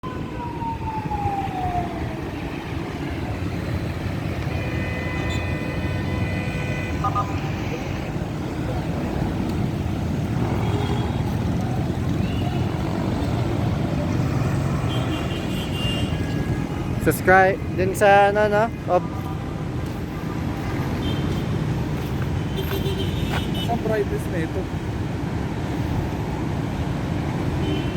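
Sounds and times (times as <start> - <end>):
heavy road traffic: 0.0 - 27.9.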